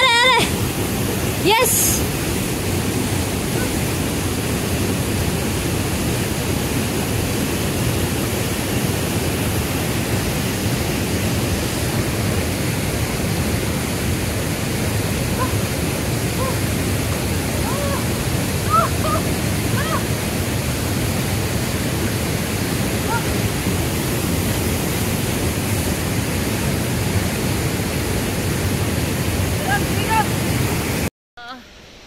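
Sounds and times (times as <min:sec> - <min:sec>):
waterfall rushing: 0:00.0 - 0:31.1.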